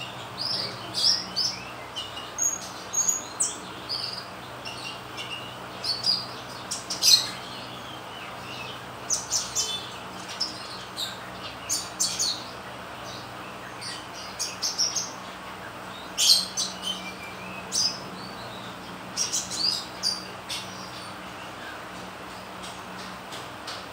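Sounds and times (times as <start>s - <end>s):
bird chirping and trilling: 0.0s - 23.0s.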